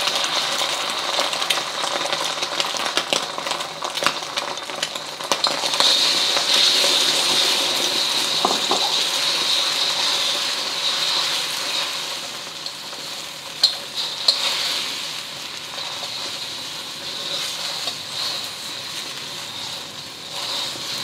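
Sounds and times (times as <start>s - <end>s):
eggs sizzling in hot oil: 0.0s - 21.0s.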